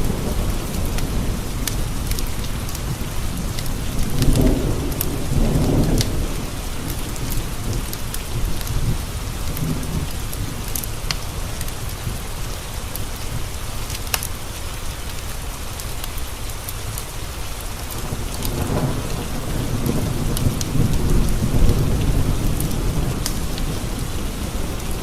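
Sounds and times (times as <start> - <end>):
thunder rumble: 0.0 - 14.5, 16.8 - 25.0
rain pattering on window glass: 0.0 - 25.0
wood fire crackling: 0.0 - 25.0.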